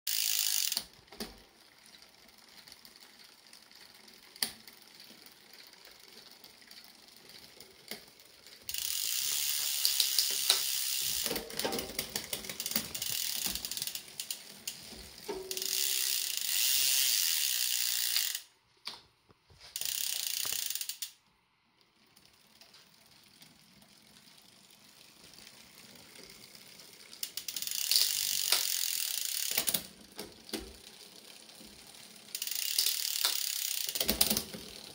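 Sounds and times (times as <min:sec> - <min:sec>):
dry bike chain crunching over sprockets: 0:00.1 - 0:18.4, 0:19.8 - 0:21.1, 0:22.2 - 0:34.9.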